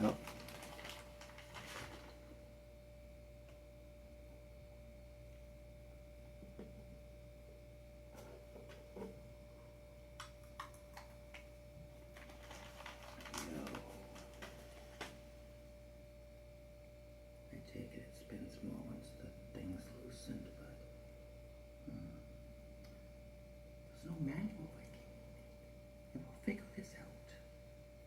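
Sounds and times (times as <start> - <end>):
faint steady tone: 0.0 - 28.0
low hum: 0.0 - 28.0.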